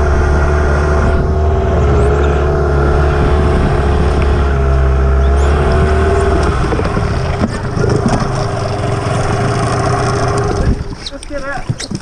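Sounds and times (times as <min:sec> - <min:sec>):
boat motor at high revs: 0:00.0 - 0:12.0.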